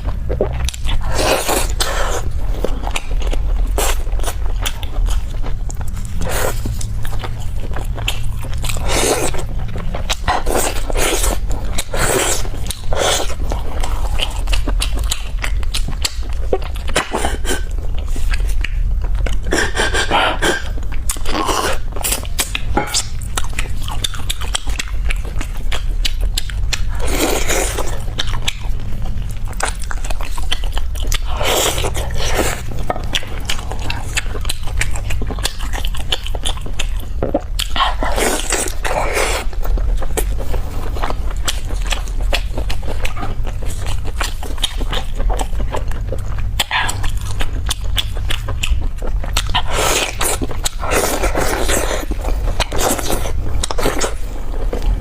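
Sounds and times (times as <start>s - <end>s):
wet smacks and chewing clicks: 0.0s - 40.3s, 41.0s - 55.0s
person chewing meat: 0.0s - 55.0s.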